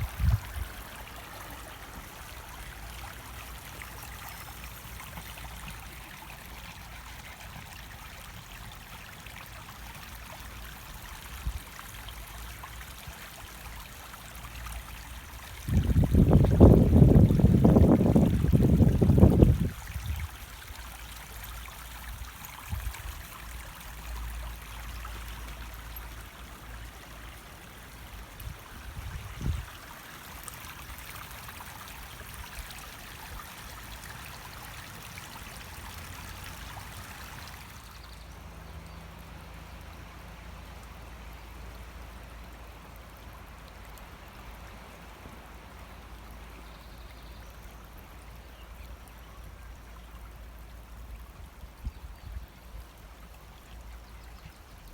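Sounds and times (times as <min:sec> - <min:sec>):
stream water rushing: 0:00.0 - 0:46.6.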